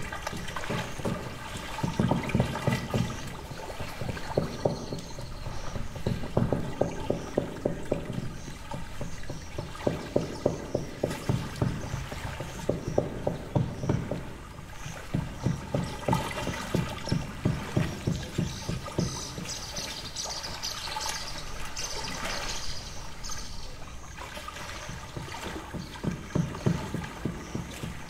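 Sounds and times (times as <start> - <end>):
hammering dull knocks: 0.0 - 21.7, 24.6 - 28.0
water lapping and trickling: 0.0 - 28.0.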